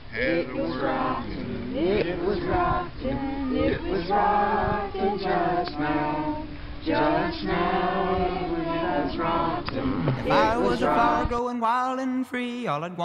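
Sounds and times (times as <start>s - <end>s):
group singing unaccompanied: 0.0s - 11.4s.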